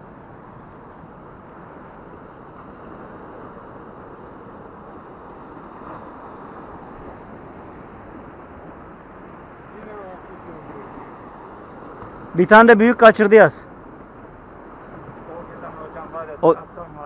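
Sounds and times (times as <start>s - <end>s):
sea waves washing on rocks: 0.1s - 17.0s.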